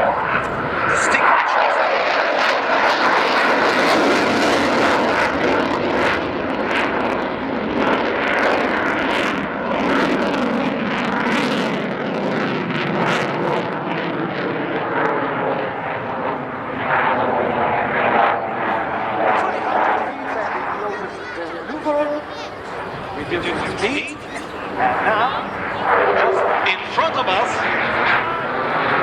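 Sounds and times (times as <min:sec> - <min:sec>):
fighter jet engines roaring: 0:00.0 - 0:29.0.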